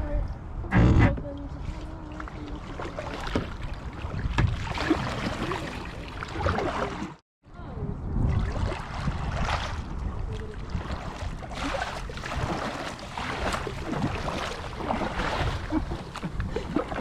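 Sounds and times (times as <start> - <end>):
wind rumble on microphone: 0.0 - 17.0
paddle strokes splashing: 1.0 - 7.2, 8.4 - 17.0.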